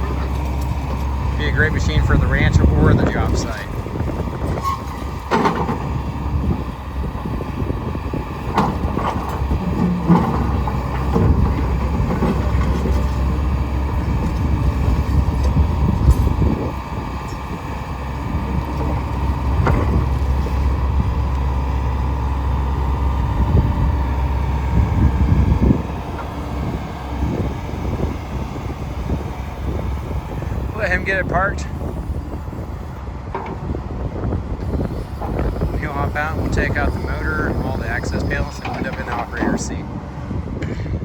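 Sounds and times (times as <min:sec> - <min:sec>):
excavator engine under load: 0:00.0 - 0:41.0
hydraulics working: 0:00.0 - 0:41.0.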